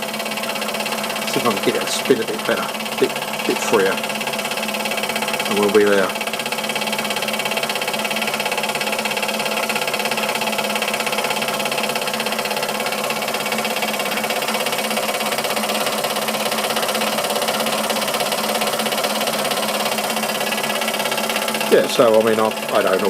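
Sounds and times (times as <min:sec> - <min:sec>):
model steam engine running: 0:00.0 - 0:23.0.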